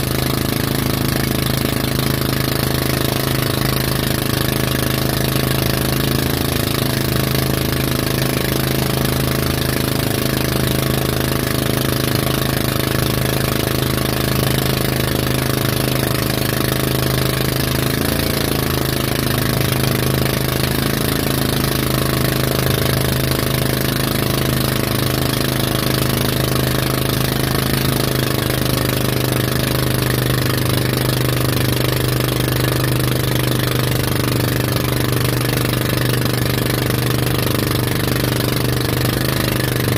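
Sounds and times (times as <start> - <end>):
boat engine low hum: 0.0 - 39.9.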